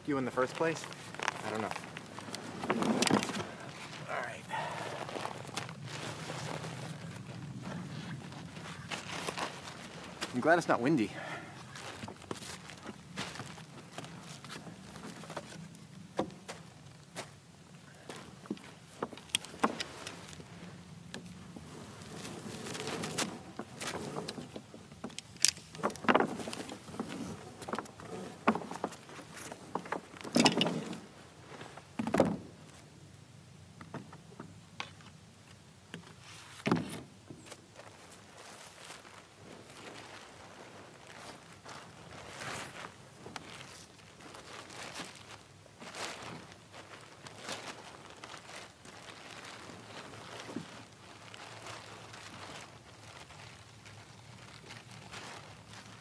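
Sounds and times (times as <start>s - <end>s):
plastic tarp rustling: 0.2s - 17.1s, 21.4s - 25.0s, 25.6s - 32.8s, 37.6s - 56.0s.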